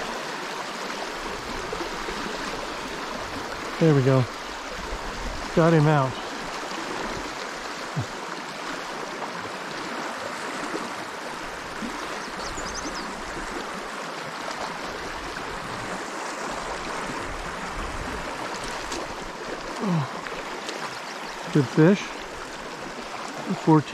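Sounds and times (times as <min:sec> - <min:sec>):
river flowing: 0:00.0 - 0:23.9.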